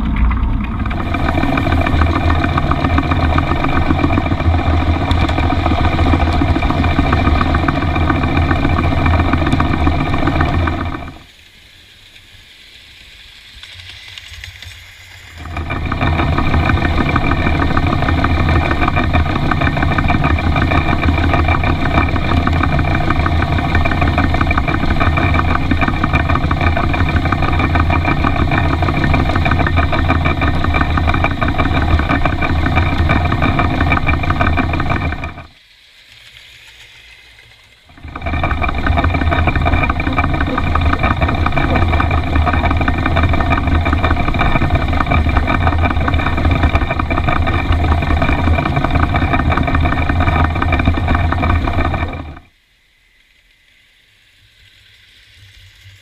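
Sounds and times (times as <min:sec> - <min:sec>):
model steam locomotive rumbling: 0:00.0 - 0:52.5.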